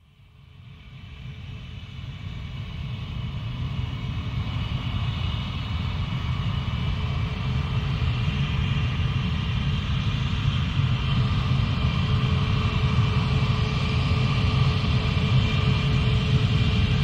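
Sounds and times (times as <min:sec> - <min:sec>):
high jet engine whine: 0:00.0 - 0:17.0
jet engine rumble: 0:00.0 - 0:17.0.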